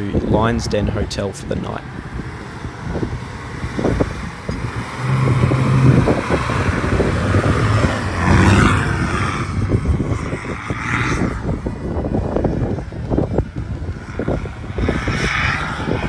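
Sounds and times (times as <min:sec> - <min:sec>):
tyre and road noise: 0:00.0 - 0:16.0
vehicle engine under load: 0:00.0 - 0:16.0.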